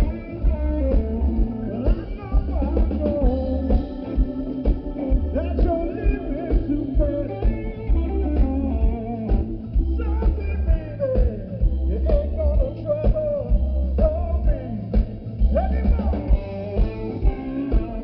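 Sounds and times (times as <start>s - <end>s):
electric guitar bending notes: 0.0s - 18.0s
live blues band playing: 0.0s - 18.0s.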